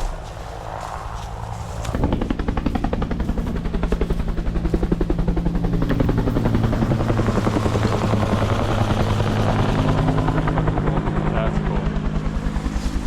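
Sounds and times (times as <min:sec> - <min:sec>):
helicopter rotor blade slap: 0:00.0 - 0:13.0
turbine low drone: 0:00.0 - 0:13.0.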